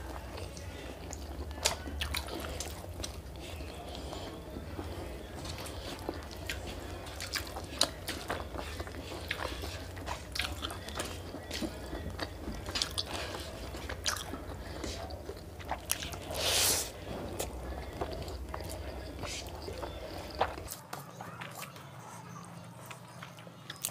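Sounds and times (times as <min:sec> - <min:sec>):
chewing and lip-smacking: 0:00.0 - 0:23.9.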